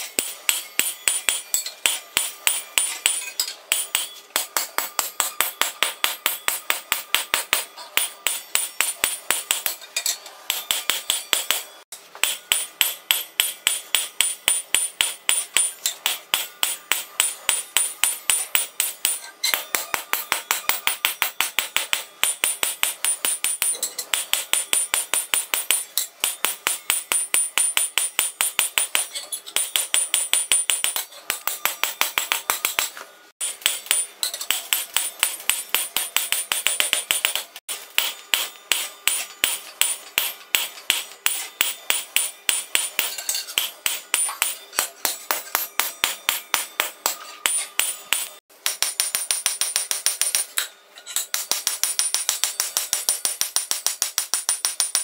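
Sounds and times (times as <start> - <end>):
hammer striking steel on anvil: 0.0 - 55.0.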